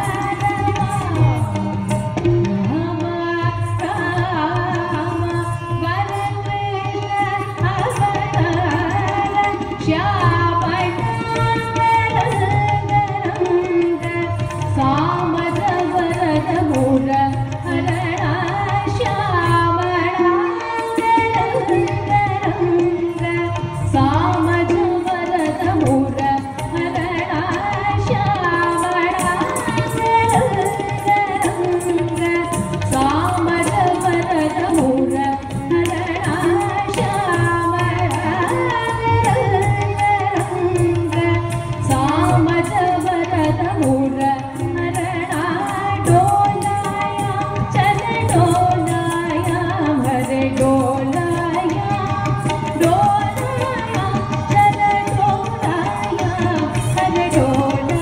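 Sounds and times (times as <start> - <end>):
violin: 0.0 - 58.0
woman singing: 0.0 - 58.0.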